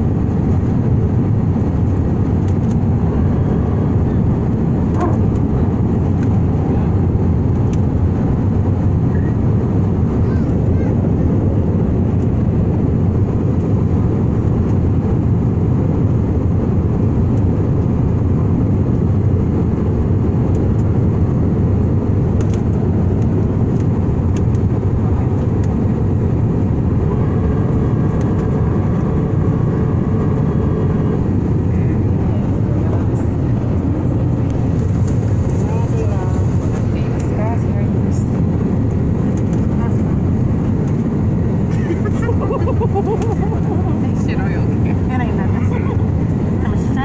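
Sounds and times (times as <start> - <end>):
jet engine cabin rush: 0.0 - 47.0.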